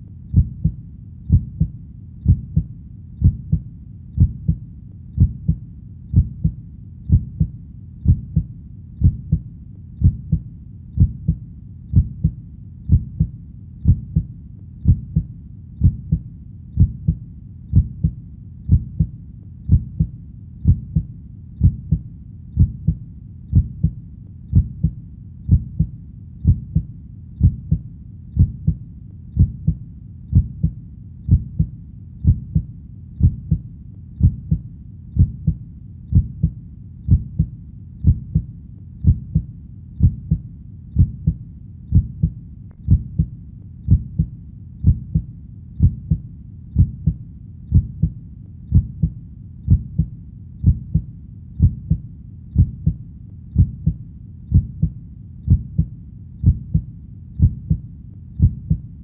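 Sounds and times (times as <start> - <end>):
heartbeat: 0.0 - 59.0.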